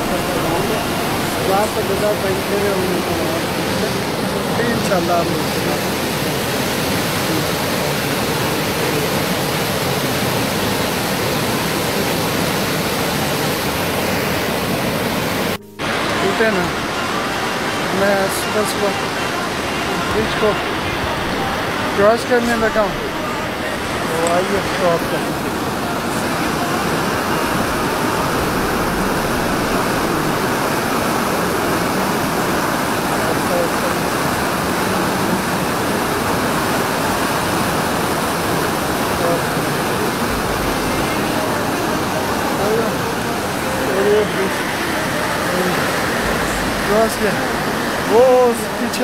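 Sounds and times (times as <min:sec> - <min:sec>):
rushing stream water: 0:00.0 - 0:49.0.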